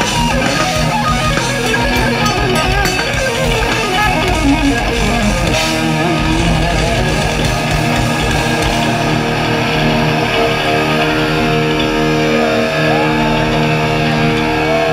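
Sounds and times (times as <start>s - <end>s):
guitar squeals: 0.0s - 14.9s
live metal band playing: 0.0s - 14.9s.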